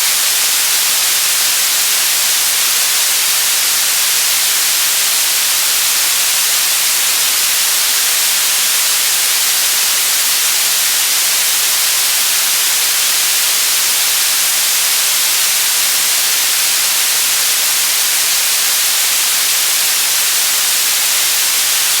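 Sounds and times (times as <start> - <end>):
static hiss: 0.0 - 22.0.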